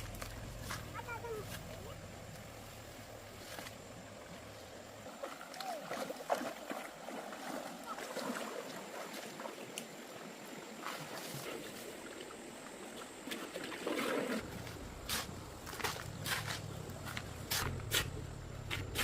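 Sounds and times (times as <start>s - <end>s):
water sloshing and splashing: 0.0s - 19.0s
water gurgles: 3.0s - 19.0s.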